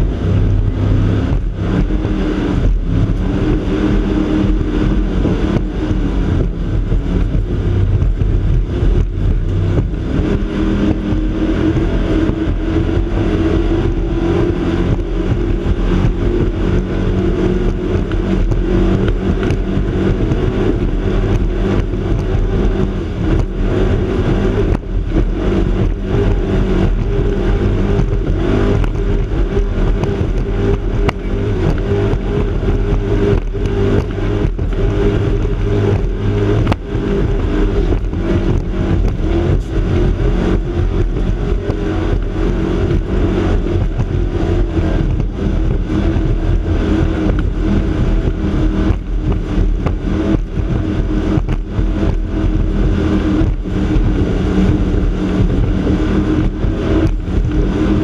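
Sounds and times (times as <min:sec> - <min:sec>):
hull thumps and buffets: 0:00.0 - 0:58.0
powerboat engines droning: 0:00.0 - 0:58.0.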